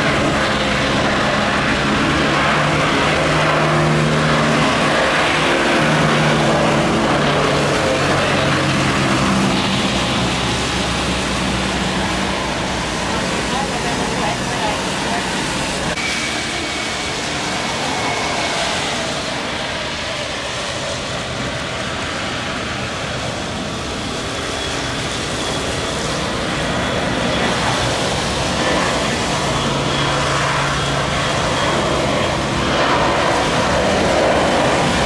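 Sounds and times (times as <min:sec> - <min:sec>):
jet engines at takeoff: 0:00.0 - 0:35.0.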